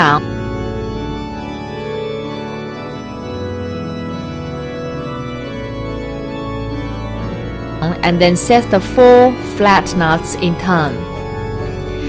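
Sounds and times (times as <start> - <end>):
slow held chords music: 0.0 - 12.0.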